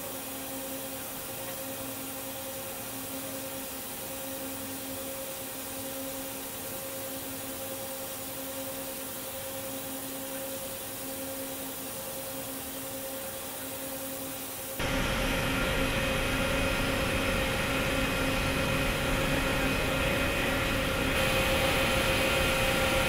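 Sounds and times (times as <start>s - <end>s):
factory machinery hum: 0.0s - 23.0s.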